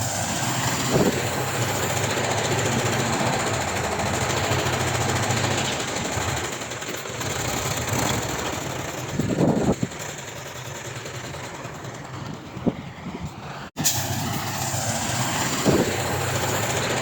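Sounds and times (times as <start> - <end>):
diesel earthmoving machinery running: 0.0 - 17.0.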